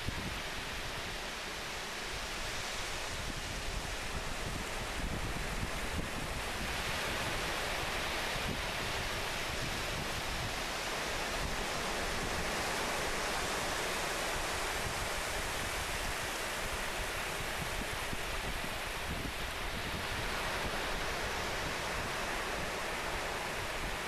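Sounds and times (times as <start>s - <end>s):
sea surf rushing: 0.0s - 24.0s
wind rumbling on microphone: 0.0s - 24.0s.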